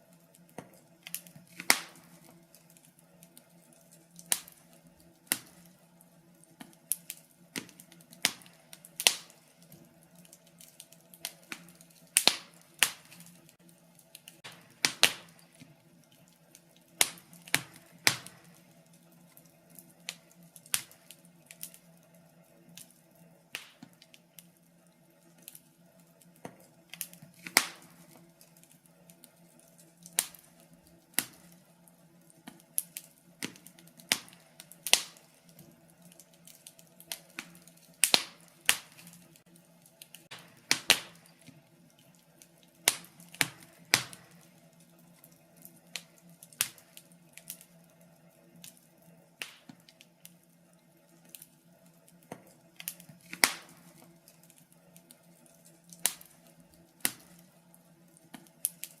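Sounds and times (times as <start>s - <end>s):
faint steady hum: 0.0s - 59.0s
wood fire crackling and popping: 0.0s - 59.0s.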